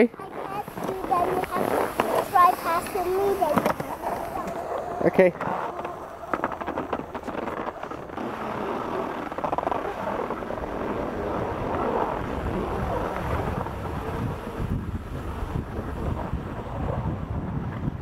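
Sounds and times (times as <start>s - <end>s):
wind buffeting microphone: 0.0s - 18.0s
skis sliding on snow: 0.2s - 17.0s.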